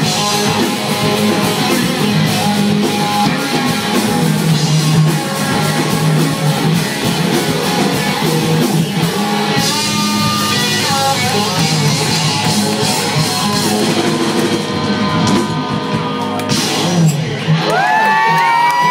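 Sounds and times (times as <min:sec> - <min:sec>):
drum kit: 0:00.0 - 0:18.9
electric guitar: 0:00.0 - 0:18.9
live rock band playing: 0:00.0 - 0:18.9.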